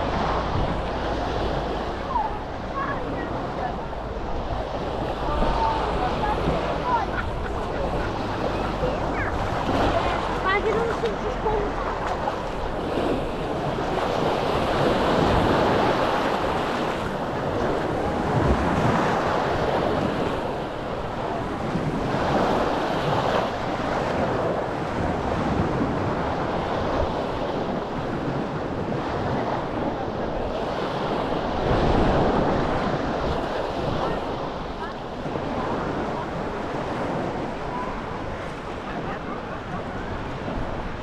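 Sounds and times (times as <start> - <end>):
small waves on sandy beach: 0.0 - 41.0
wind buffeting microphone: 0.0 - 41.0.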